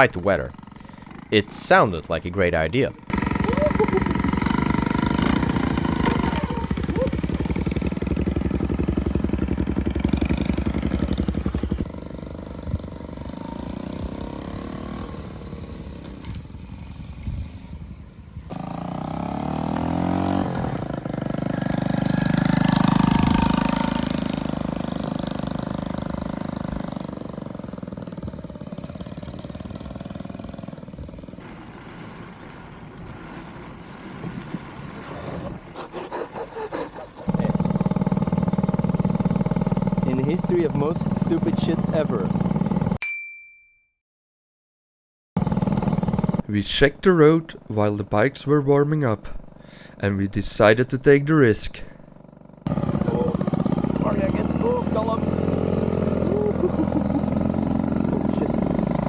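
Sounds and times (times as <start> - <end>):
small motorcycle engine revving: 0.0 - 43.0, 45.4 - 50.0, 51.4 - 59.0.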